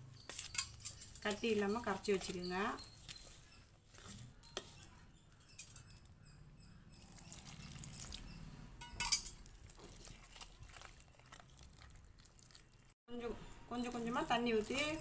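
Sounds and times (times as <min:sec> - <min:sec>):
spoon stirring thick batter: 0:00.1 - 0:15.0
spoon scraping bowl: 0:00.2 - 0:12.7.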